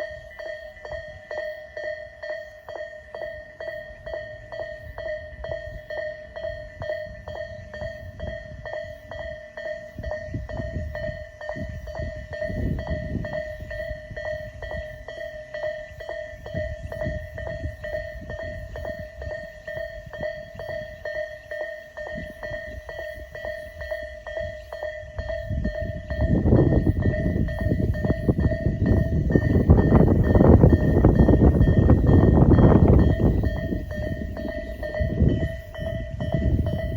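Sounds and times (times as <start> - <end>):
level crossing warning bell: 0.0 - 36.9
train rumble: 0.0 - 36.9.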